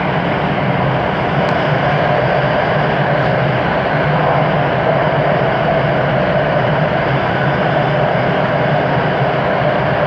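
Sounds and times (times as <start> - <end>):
running gear hum: 0.0 - 10.0
train wheels rumbling on rail: 0.0 - 10.0.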